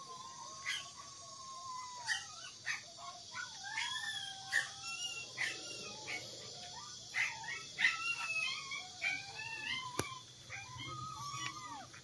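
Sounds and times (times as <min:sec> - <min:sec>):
dog whining and whimpering: 0:00.0 - 0:02.8, 0:03.4 - 0:12.0.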